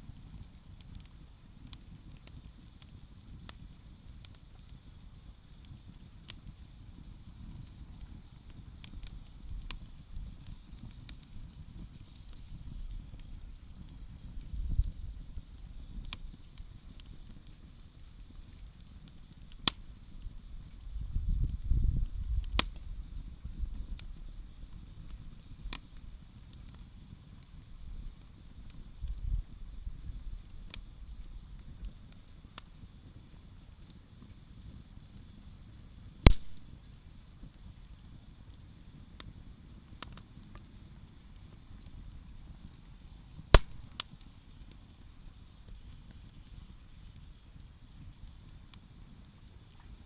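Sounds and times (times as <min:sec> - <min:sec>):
bonfire low rumble: 0:00.0 - 0:50.0
fire popping: 0:00.0 - 0:50.0
wood fire crackling: 0:00.0 - 0:50.0.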